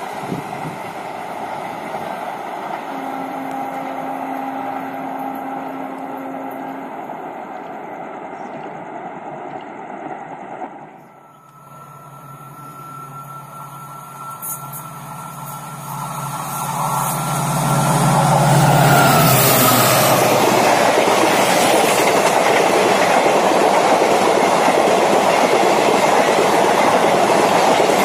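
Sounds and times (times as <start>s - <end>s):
train coaches rolling on rails: 0.0s - 28.0s.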